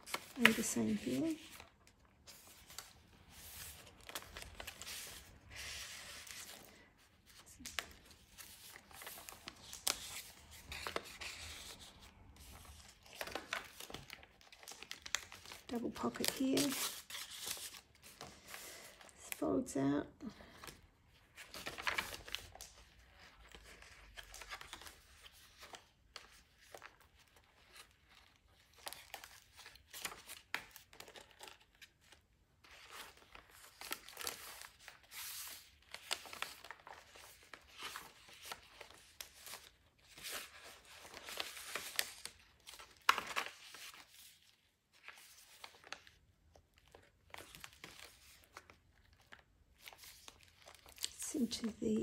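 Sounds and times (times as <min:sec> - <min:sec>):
paper pages rustling: 0:00.0 - 0:19.4, 0:20.4 - 0:52.0.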